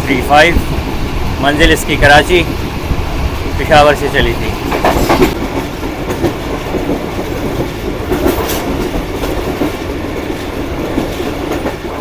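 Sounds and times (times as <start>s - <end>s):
train coach rumbling: 0.0s - 12.0s
wheels clicking on rail joints: 0.0s - 12.0s.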